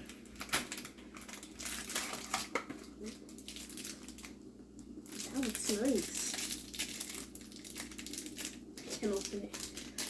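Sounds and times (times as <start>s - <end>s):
wrapper crinkling: 0.0s - 10.0s.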